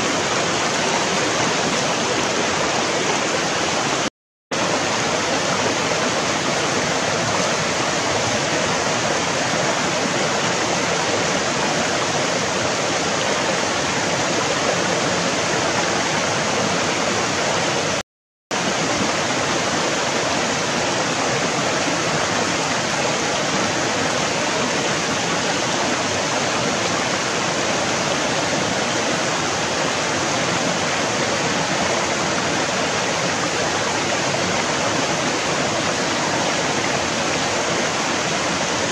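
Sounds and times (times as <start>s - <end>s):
rocky stream flowing: 0.0s - 38.9s.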